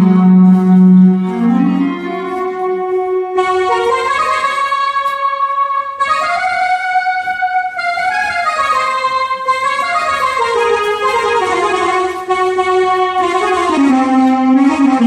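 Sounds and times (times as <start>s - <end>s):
electronic keyboard melody: 0.0s - 15.0s.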